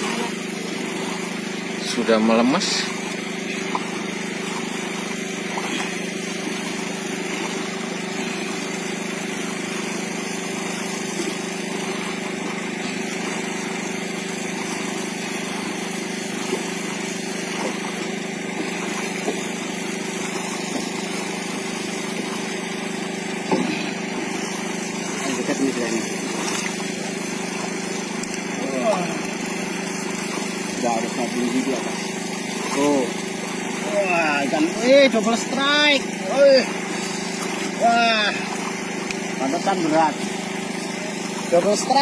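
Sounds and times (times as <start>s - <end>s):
boat engine humming: 0.0s - 42.0s
water noise: 0.0s - 42.0s.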